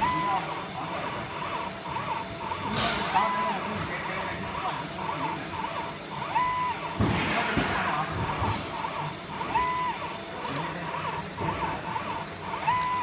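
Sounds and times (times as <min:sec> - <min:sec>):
laser marking machine whining: 0:00.0 - 0:13.0.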